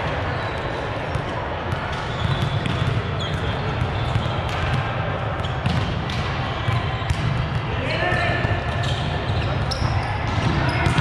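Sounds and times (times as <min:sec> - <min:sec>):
gym hall din: 0:00.0 - 0:11.0
volleyballs bouncing on floor: 0:01.7 - 0:11.0.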